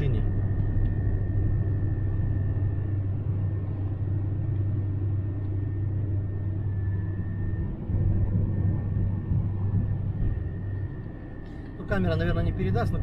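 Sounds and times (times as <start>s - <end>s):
car cabin road drone: 0.0s - 13.0s.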